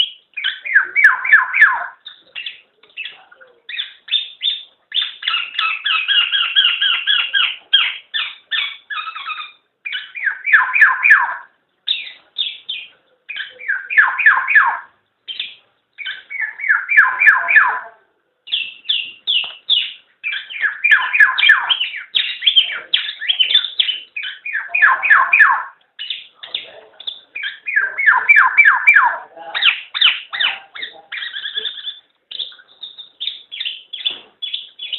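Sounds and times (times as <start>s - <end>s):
oriole calling: 0.0s - 34.9s.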